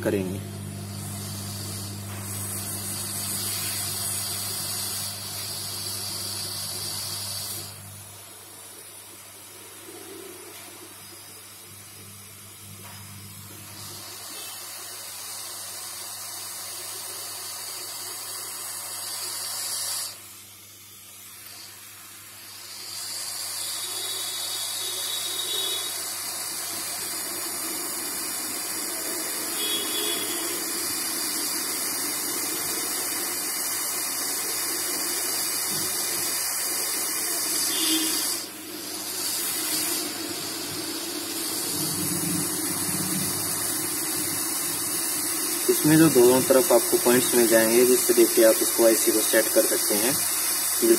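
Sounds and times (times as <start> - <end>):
hot air station hissing: 0.0 - 50.9.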